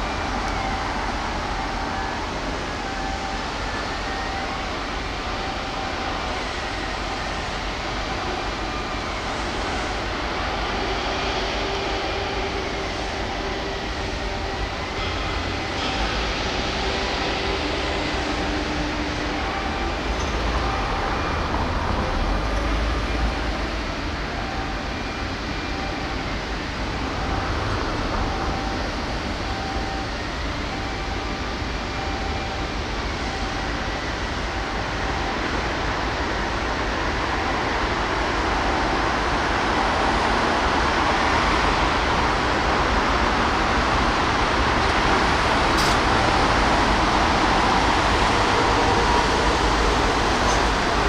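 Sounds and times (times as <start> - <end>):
pulsing whine: 0.0 - 51.0
wavering whine: 0.0 - 51.0.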